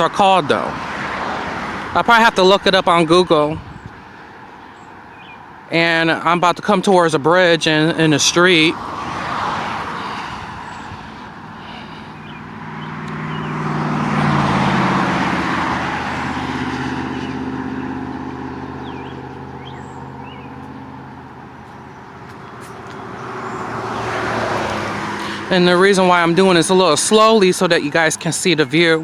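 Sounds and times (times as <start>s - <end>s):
engine hum passing: 0.0s - 6.1s, 7.1s - 29.0s
vehicle tyre noise: 0.0s - 29.0s.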